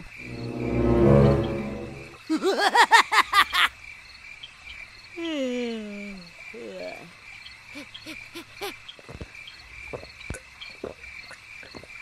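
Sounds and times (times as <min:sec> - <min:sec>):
chirping crickets: 0:00.0 - 0:12.0.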